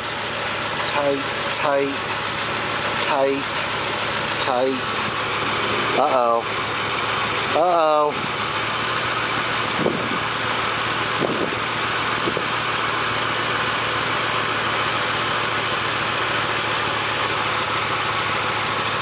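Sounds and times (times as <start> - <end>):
engine idling rough with misfire: 0.0 - 19.0.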